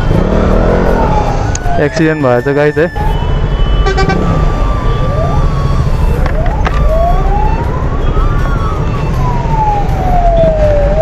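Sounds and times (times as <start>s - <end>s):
siren wailing: 0.0s - 11.0s
traffic rumble: 0.0s - 11.0s.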